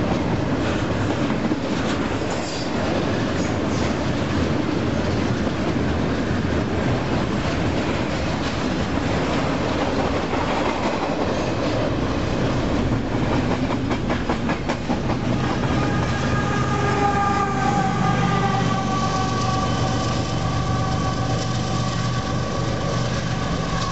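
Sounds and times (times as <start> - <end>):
diesel locomotive drone: 0.0 - 23.9
train wheels rumbling on rails: 0.0 - 23.9.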